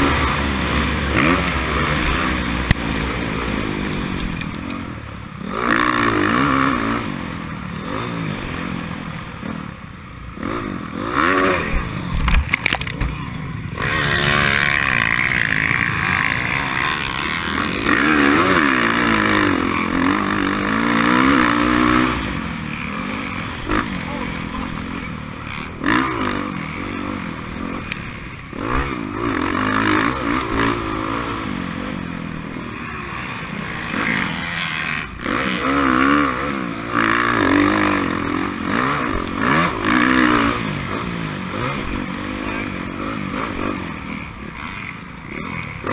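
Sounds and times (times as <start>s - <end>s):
racing motorcycle engine revving: 0.0s - 45.9s.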